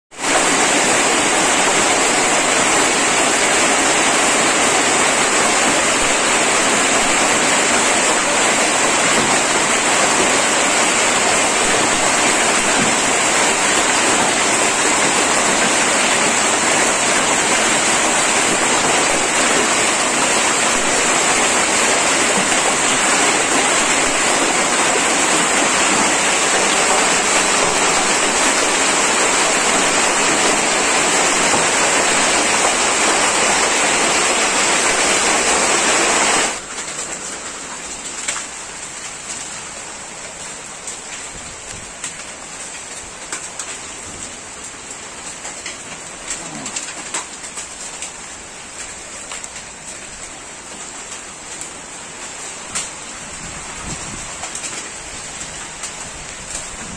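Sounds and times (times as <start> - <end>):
heavy rain and hail on concrete: 0.1 - 56.9.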